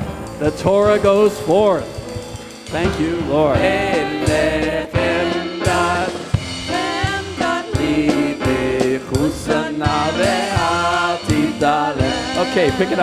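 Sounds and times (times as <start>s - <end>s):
band with drum kit: 0.0s - 13.0s
voices singing: 0.0s - 13.0s.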